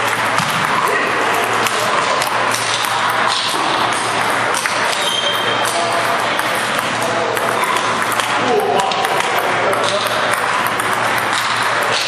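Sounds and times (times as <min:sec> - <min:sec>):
table tennis ball clicks: 0:00.1 - 0:12.0.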